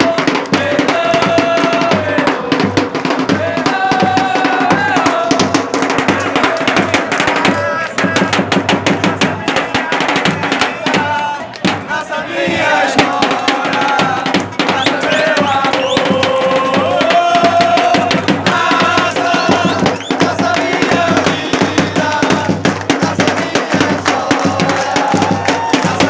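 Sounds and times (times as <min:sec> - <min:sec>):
crowd singing: 0:00.0 - 0:26.0
drums beating a steady rhythm: 0:00.0 - 0:26.0.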